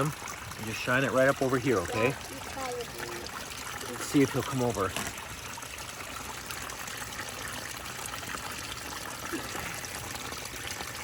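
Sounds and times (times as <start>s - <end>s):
waterfall trickling and splashing: 0.0s - 11.0s.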